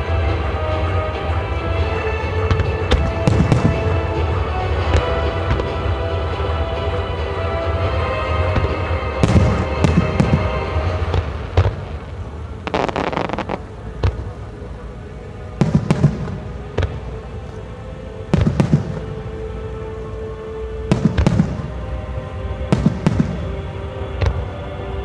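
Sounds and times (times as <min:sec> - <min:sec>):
firework crackling volley: 0:00.0 - 0:20.0, 0:20.7 - 0:25.0
music: 0:00.0 - 0:25.0.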